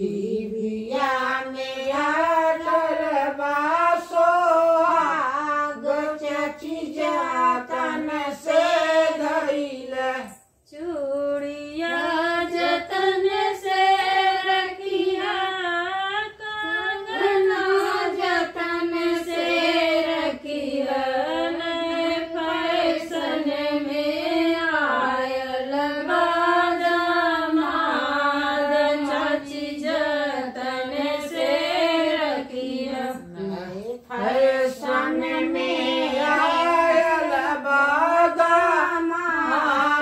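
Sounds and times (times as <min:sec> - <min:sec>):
women singing folk song: 0:00.0 - 0:40.0.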